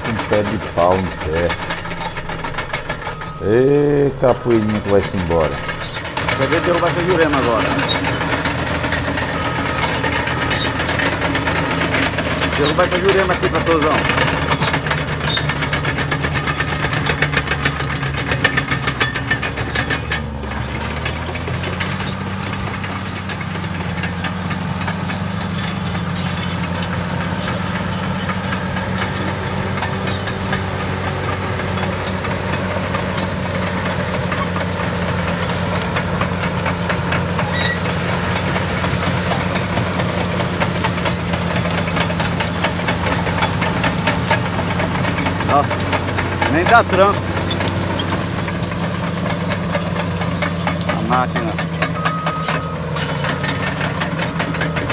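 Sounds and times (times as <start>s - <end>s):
bulldozer diesel engine under load: 0.0s - 54.9s.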